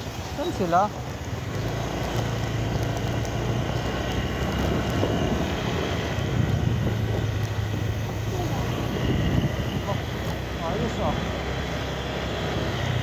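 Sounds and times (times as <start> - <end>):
road noise: 0.0 - 13.0
motorcycle engine running: 0.4 - 13.0.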